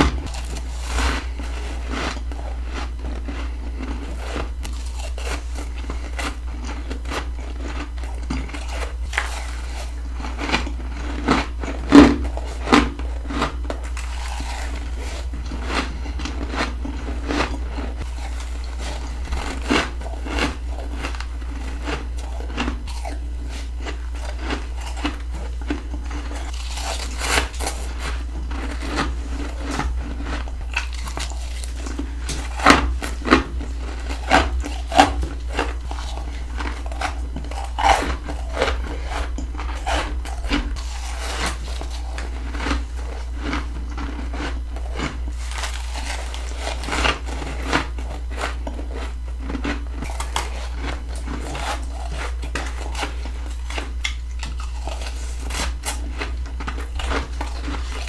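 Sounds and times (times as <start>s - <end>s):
frost crunching between teeth: 0.0s - 58.0s
steady low hum: 0.0s - 58.0s.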